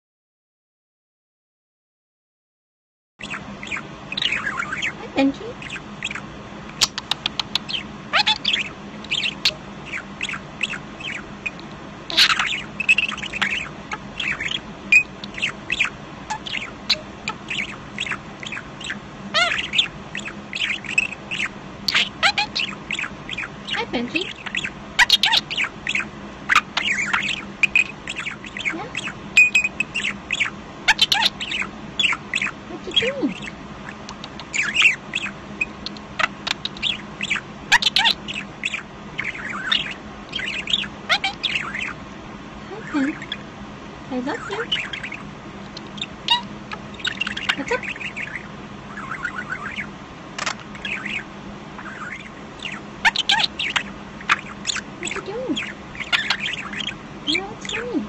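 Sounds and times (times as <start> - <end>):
budgerigar mimicking speech: 3.2 - 6.2, 6.8 - 42.0, 42.6 - 43.4, 44.1 - 45.2, 45.8 - 58.0
budgerigar chattering: 3.2 - 42.0, 42.7 - 43.5, 44.1 - 58.0.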